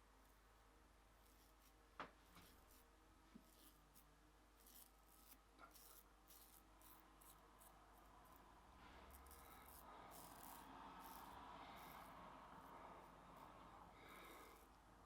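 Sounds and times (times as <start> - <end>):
razor scraping stubble: 1.2 - 14.8.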